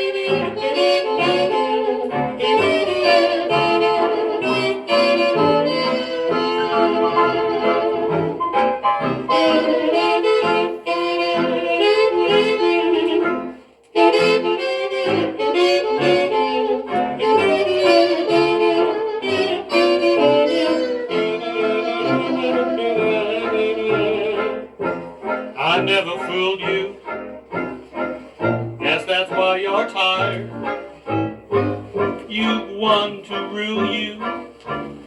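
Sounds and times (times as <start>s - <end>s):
hot jazz band playing: 0.0s - 35.0s.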